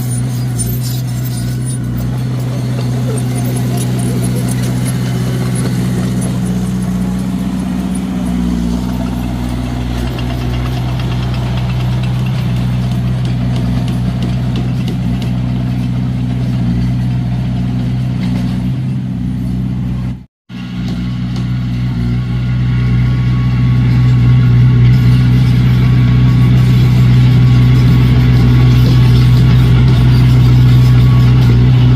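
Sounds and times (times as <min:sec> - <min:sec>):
bulldozer diesel engine running: 0:00.0 - 0:31.9.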